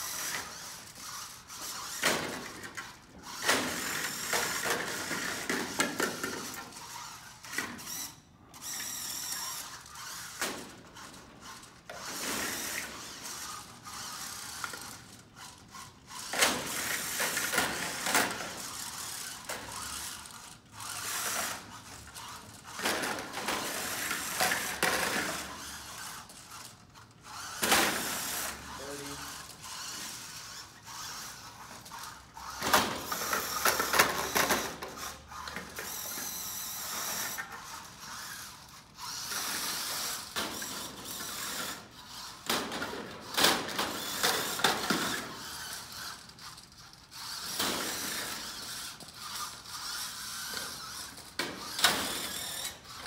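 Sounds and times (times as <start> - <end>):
electric motors whining: 0.0 - 53.0.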